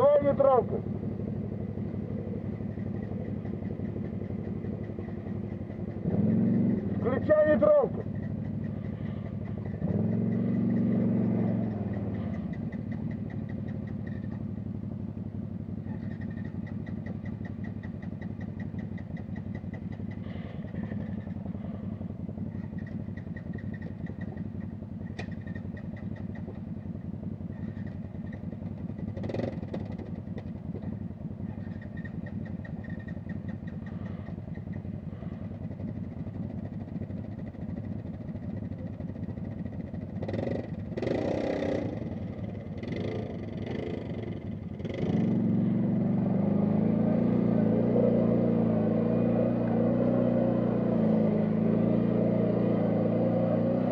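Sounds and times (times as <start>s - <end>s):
quad bike engines revving: 0.0s - 53.9s.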